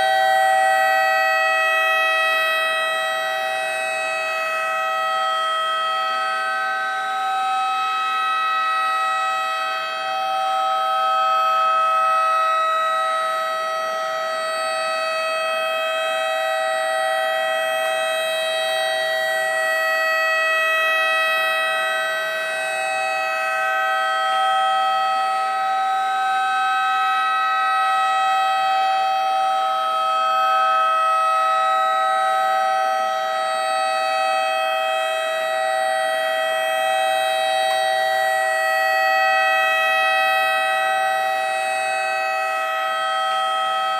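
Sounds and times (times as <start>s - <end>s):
electronic siren tone: 0.0s - 43.9s.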